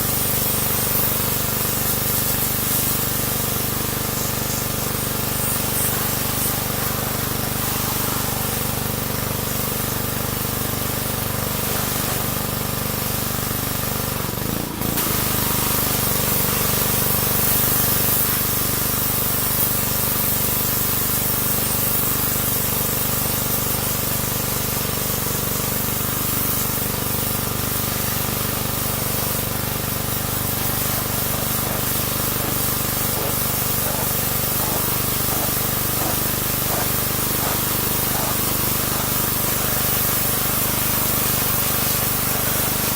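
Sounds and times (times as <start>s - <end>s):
pressure washer spraying: 0.0s - 42.9s.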